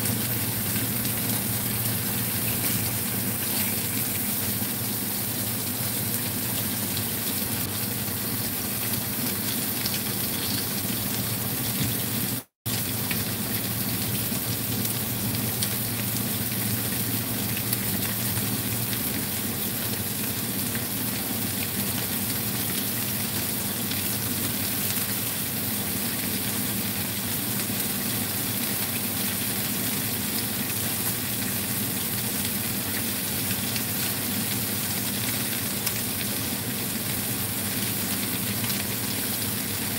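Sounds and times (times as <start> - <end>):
fish frying sizzle: 0.0 - 39.9.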